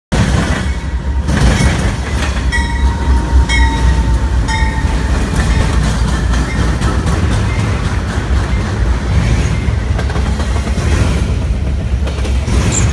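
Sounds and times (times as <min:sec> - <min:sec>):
diesel locomotive rumbling past: 0:00.1 - 0:12.9
locomotive bell ringing: 0:00.2 - 0:10.7, 0:12.6 - 0:12.9.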